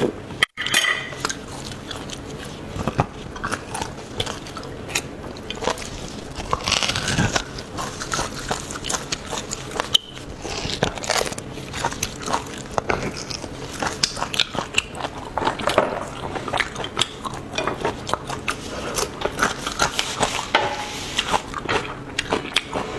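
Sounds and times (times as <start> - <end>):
person chewing on bone: 1.1 - 22.9
wet mouth sounds: 1.3 - 20.5.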